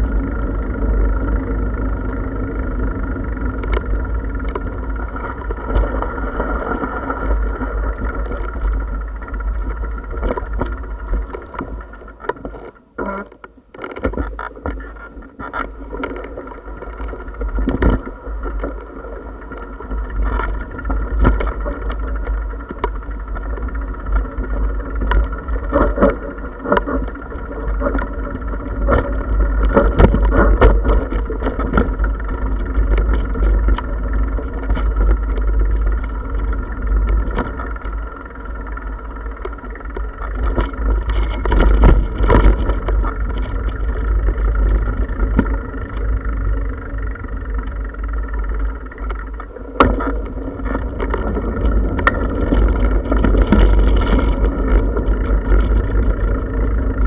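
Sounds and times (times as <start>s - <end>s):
bicycle rattles and knocks: 0.0s - 57.0s
wind rumbling on microphone: 0.0s - 57.0s.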